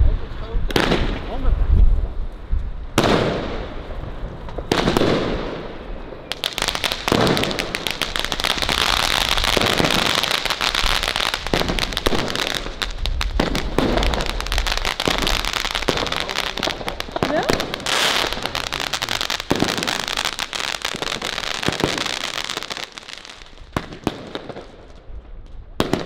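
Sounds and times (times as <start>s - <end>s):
firework bangs: 0.7s - 1.4s, 2.9s - 26.0s
rapid crackling of firework pops: 2.3s - 26.0s.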